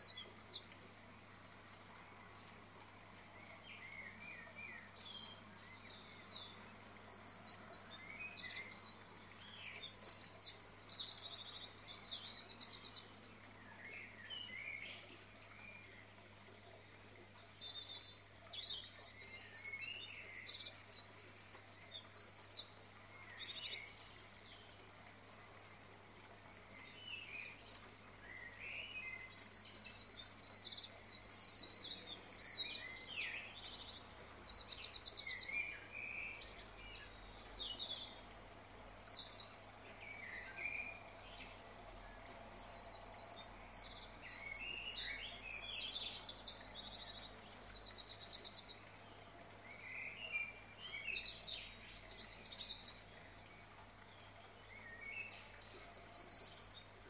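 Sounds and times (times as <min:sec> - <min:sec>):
small birds singing and chirping: 0:00.0 - 0:57.0.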